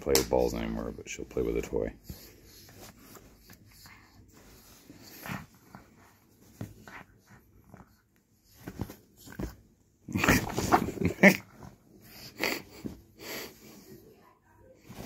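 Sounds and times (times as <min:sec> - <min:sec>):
dog breathing and throat noises: 0:00.2 - 0:14.0.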